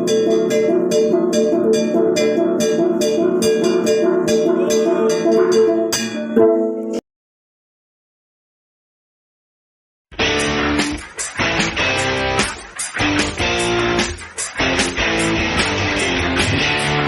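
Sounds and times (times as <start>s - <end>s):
tuned gongs struck rhythmically: 0.0s - 7.0s, 10.2s - 17.0s.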